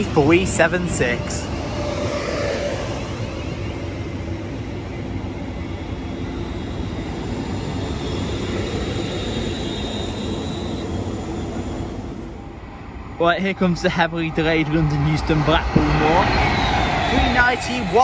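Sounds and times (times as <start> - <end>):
faint train whine: 0.0 - 18.0
train wheels rumbling: 0.0 - 18.0.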